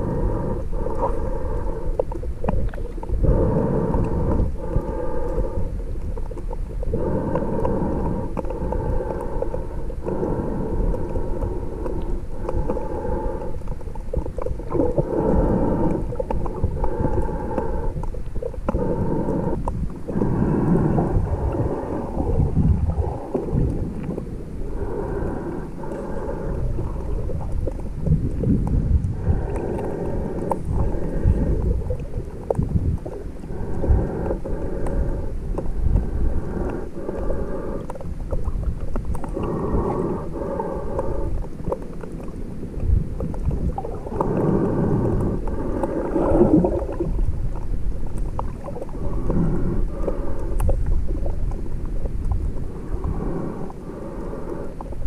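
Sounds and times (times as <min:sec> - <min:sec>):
underwater moving water rumble: 0:00.0 - 0:55.0.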